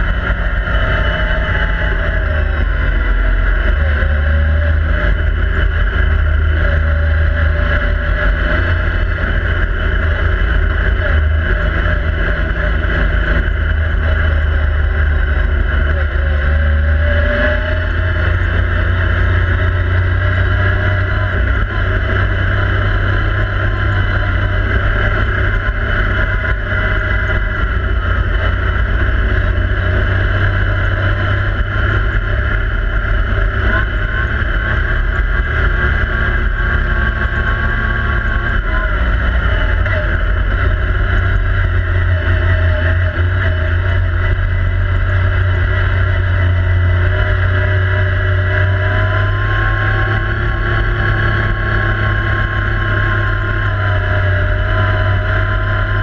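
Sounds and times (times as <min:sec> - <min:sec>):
engine running from inside cab: 0:00.0 - 0:56.0.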